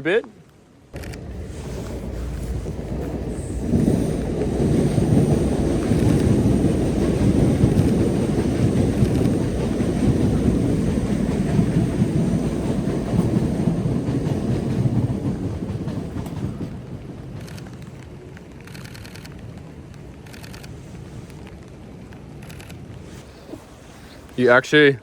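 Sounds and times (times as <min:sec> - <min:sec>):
train rumbling past: 0:00.9 - 0:25.0.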